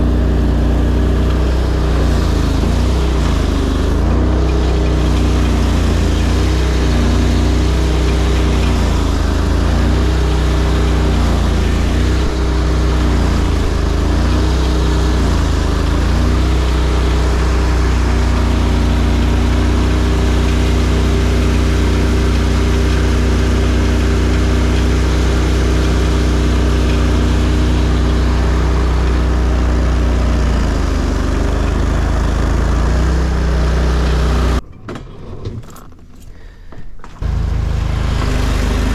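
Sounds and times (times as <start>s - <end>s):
atv engine droning: 0.0s - 34.7s, 37.2s - 38.9s.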